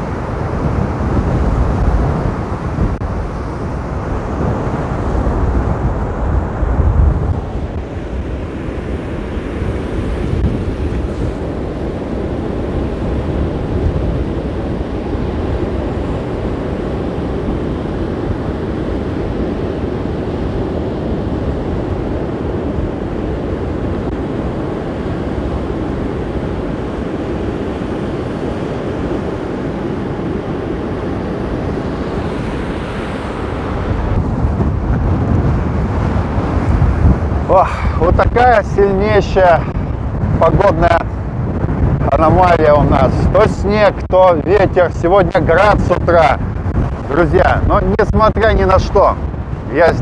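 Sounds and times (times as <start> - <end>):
surf breaking on beach: 0.0 - 50.0
wind on microphone: 0.0 - 50.0.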